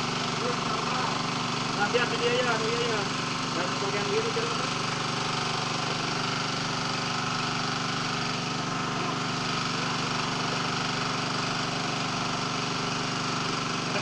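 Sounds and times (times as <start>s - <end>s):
water pump engine running: 0.0s - 14.0s.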